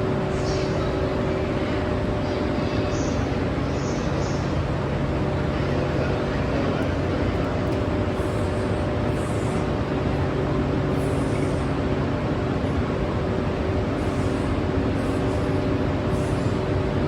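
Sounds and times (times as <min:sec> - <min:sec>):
train humming at platform: 0:00.0 - 0:17.0.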